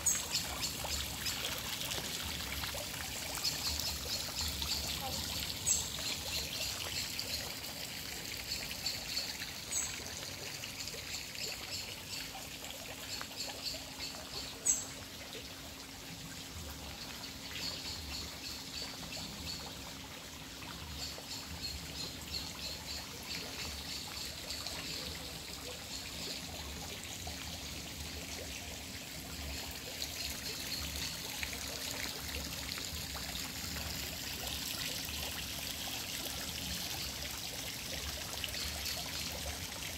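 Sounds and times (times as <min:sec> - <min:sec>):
fountain splashing and trickling: 0:00.0 - 0:39.9.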